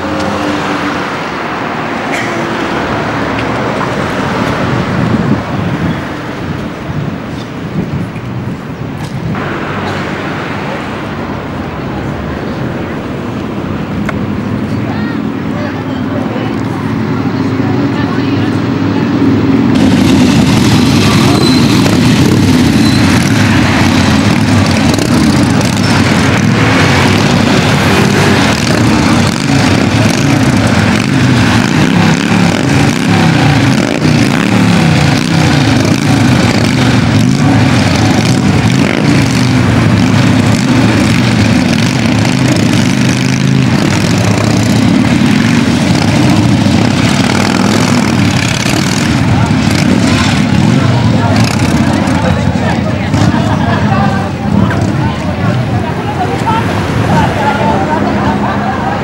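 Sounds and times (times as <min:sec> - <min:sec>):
motorcycles riding past: 0:00.0 - 0:07.3, 0:09.2 - 0:59.0.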